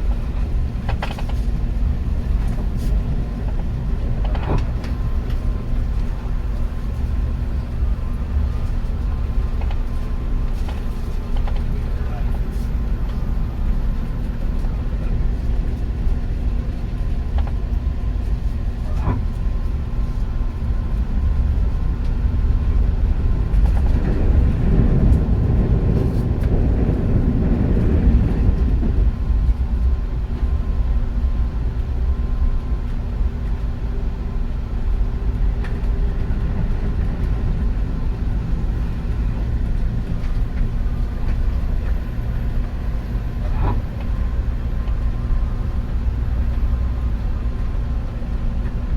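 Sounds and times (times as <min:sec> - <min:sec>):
train rumbling on track: 0:00.0 - 0:48.9.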